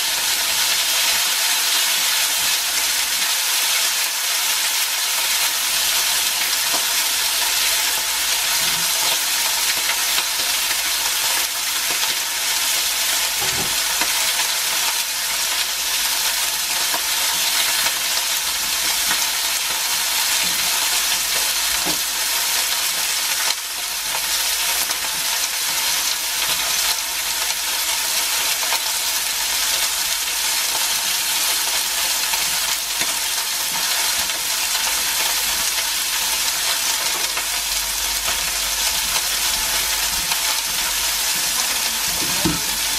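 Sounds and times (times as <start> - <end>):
steak sizzling in frying pan: 0.0 - 42.9.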